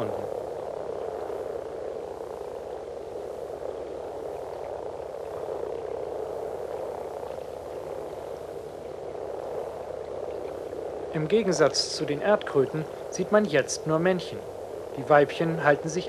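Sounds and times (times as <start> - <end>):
frogs growling in chorus: 0.0 - 16.0.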